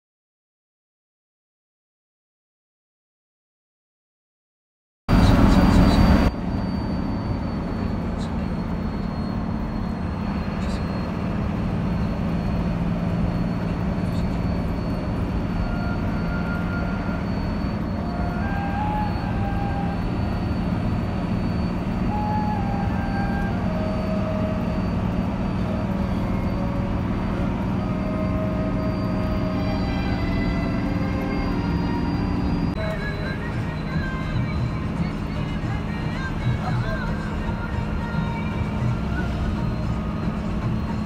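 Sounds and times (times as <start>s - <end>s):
bus engine low drone: 5.1s - 41.0s.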